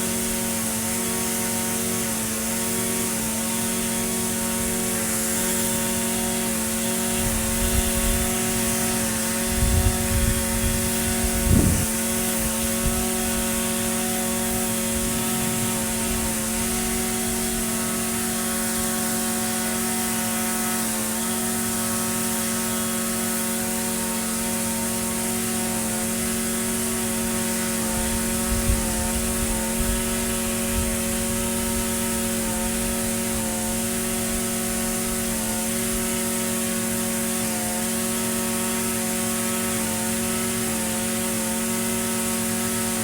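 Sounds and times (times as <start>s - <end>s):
string trimmer engine running: 0.0s - 43.0s.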